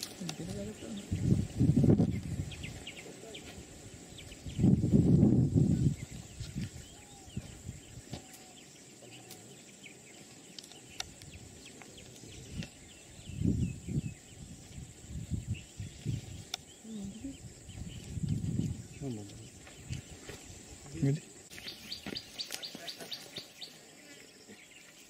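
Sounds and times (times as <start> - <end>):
birds chirping: 0.0 - 25.0
high insect buzz: 0.0 - 25.0.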